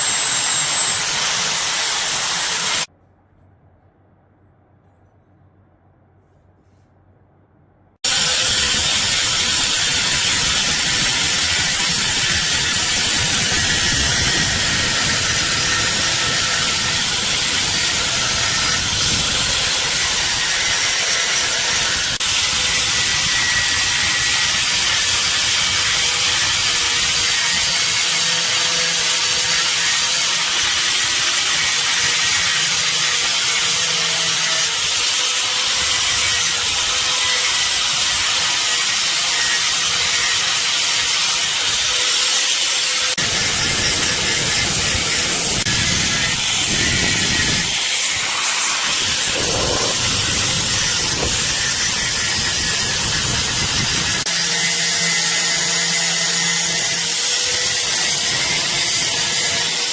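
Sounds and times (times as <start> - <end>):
power tool on metal: 0.0 - 2.9, 8.0 - 59.9.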